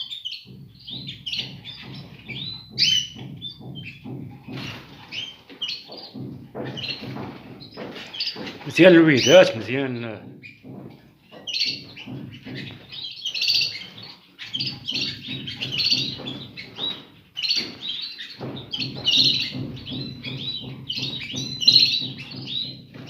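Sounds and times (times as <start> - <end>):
finches chirping: 0.0 - 23.0.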